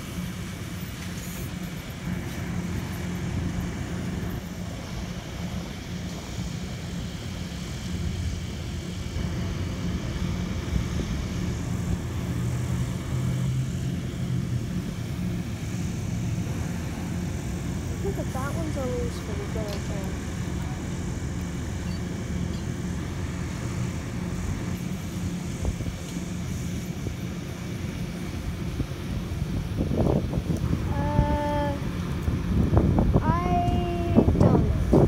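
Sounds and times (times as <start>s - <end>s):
diesel locomotive engine drone: 0.0s - 35.0s
passing train rumble: 0.0s - 35.0s.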